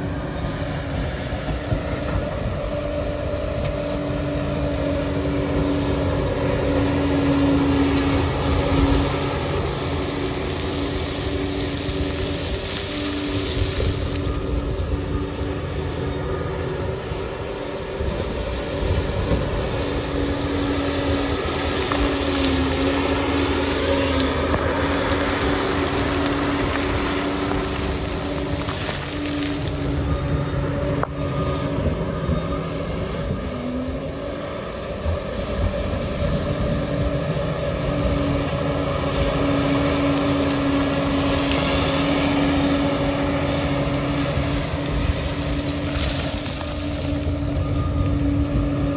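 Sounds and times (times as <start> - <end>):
bulldozer diesel engine drone: 0.0 - 48.9.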